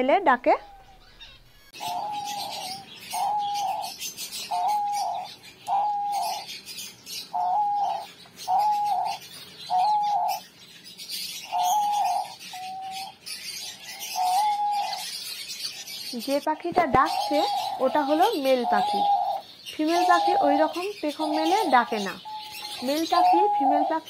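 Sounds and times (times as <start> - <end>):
dove cooing: 0.5 - 10.5, 11.2 - 24.0.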